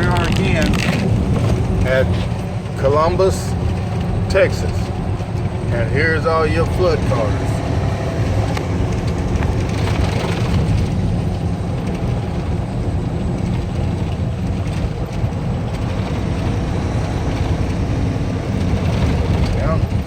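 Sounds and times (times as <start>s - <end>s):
steady low rumble with hiss: 0.0s - 20.0s.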